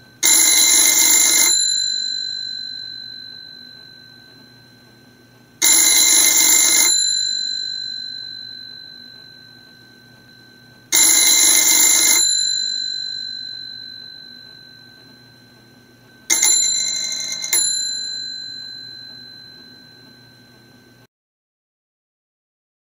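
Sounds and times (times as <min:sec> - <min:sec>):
telephone bells ringing: 0:00.0 - 0:21.1.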